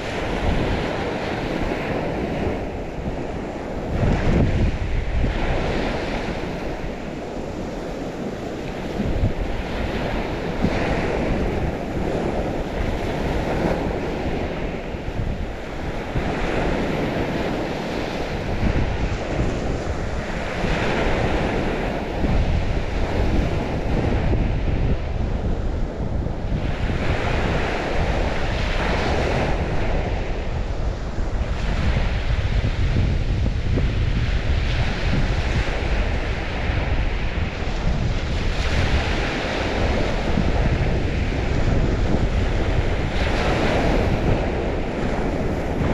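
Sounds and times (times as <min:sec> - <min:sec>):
waves washing onto shore: 0:00.0 - 0:45.9
wind rumbling on microphone: 0:00.0 - 0:45.9.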